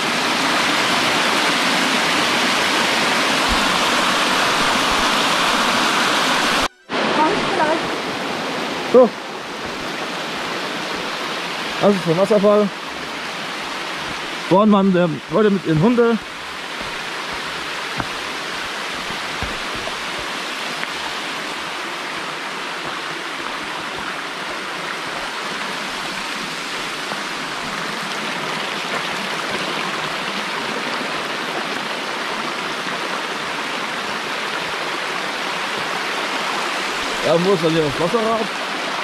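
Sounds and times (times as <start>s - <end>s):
water rushing down cascade: 0.0s - 39.0s.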